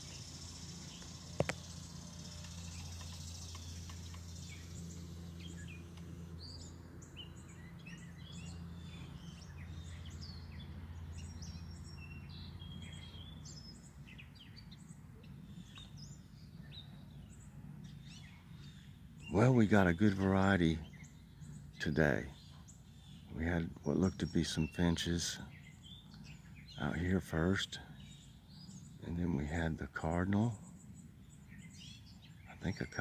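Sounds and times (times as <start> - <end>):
songbirds chirping: 0.0 - 33.0
steady low hum: 0.0 - 33.0.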